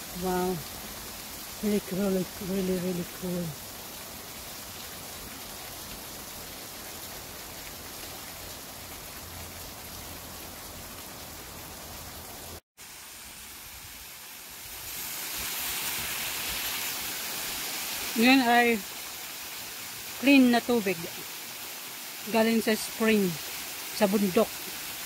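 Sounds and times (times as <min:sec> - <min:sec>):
water cascading down waterfall: 0:00.0 - 0:25.0.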